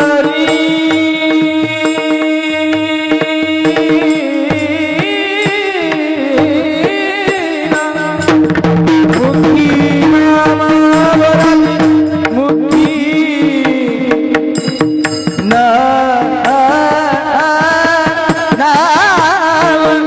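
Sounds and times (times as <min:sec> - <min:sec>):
hand drum beats: 0:00.0 - 0:20.0
man singing: 0:00.0 - 0:20.0.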